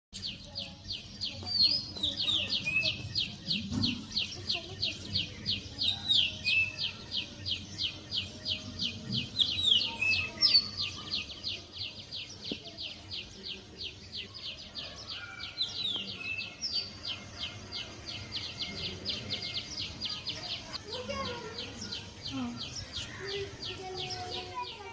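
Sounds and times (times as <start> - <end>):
birds chirping: 0.1 - 24.9.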